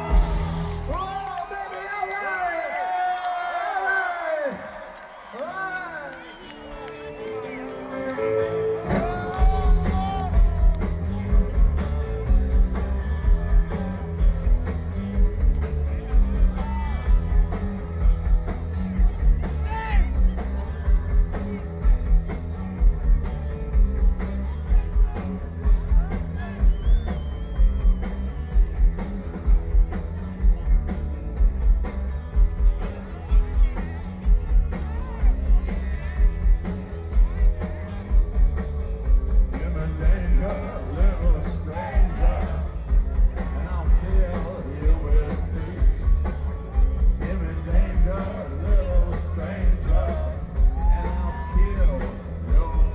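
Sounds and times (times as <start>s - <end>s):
live rock band: 0.0s - 1.2s, 6.2s - 52.9s
kick drum and bass beat: 9.4s - 52.9s.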